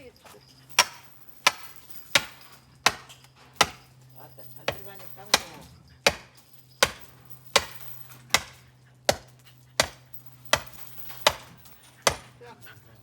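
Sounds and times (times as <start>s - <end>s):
firewood being chopped: 0.8s - 3.9s, 4.7s - 12.3s.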